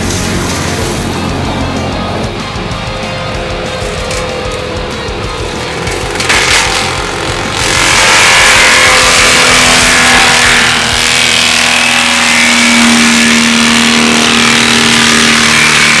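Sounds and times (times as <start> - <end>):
machine engine drone: 0.0 - 16.0
mulcher drum grinding brush: 0.0 - 16.0.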